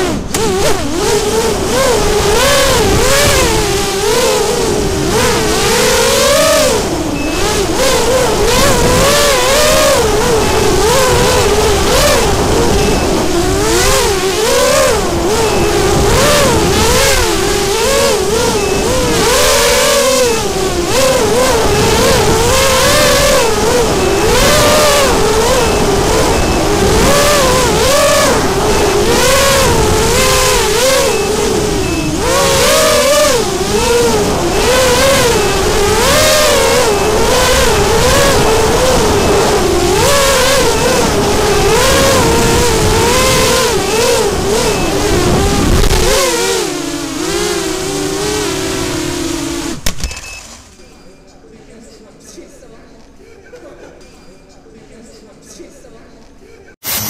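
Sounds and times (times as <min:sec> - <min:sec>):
drone motors whining: 0:00.0 - 0:50.8.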